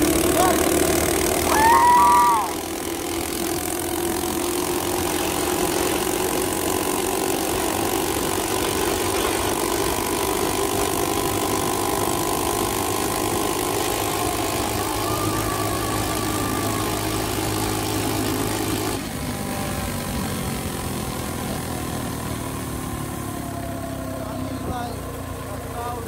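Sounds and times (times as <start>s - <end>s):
minibike engine idling: 0.0s - 26.0s.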